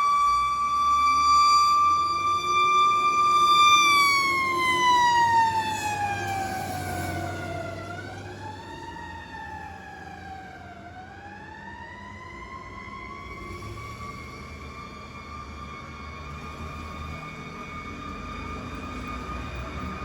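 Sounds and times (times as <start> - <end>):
fire siren winding up and down: 0.0 - 20.0.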